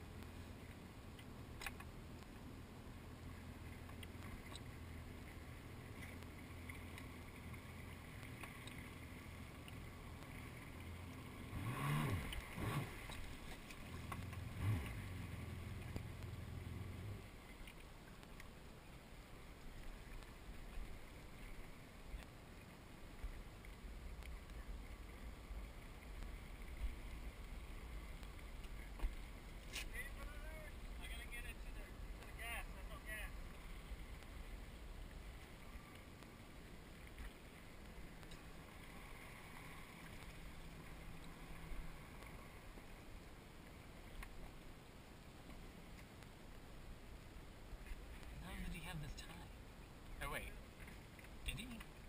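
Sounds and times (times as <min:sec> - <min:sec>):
small boat engine running: 0:00.0 - 0:17.6, 0:18.8 - 0:44.0
low rumble of wind and water: 0:00.0 - 0:52.0.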